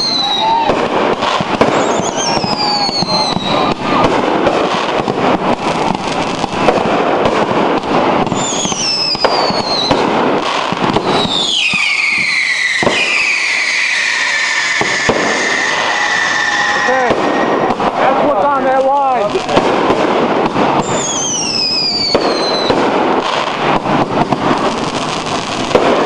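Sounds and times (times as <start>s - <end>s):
firework whistles: 0.0s - 18.0s, 19.5s - 26.0s
fireworks crackling and banging: 0.0s - 26.0s.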